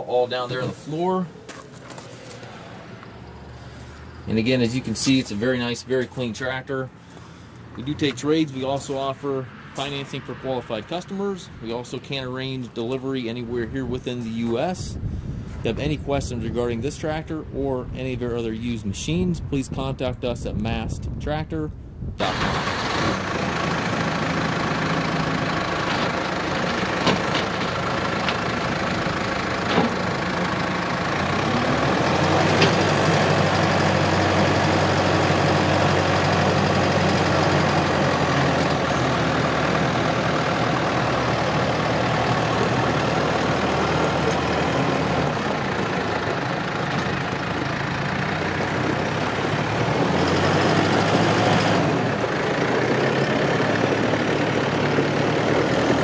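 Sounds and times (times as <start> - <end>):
tractor diesel engine running: 0.0 - 18.8, 22.2 - 56.0.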